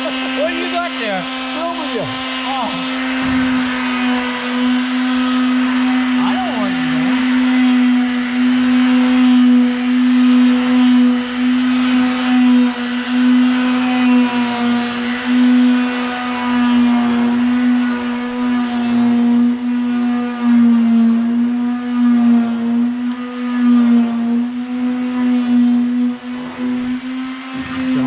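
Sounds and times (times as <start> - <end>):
motor humming with hiss: 0.0 - 28.0.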